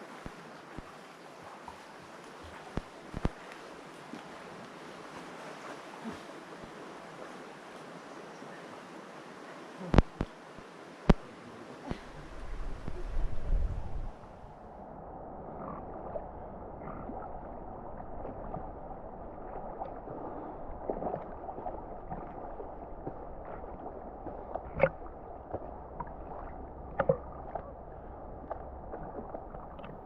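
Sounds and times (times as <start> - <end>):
river water gurgling: 0.0 - 14.8, 15.5 - 30.0.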